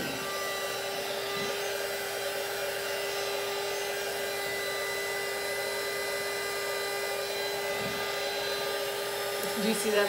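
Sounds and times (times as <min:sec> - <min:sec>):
heat gun blowing air: 0:00.0 - 0:10.0.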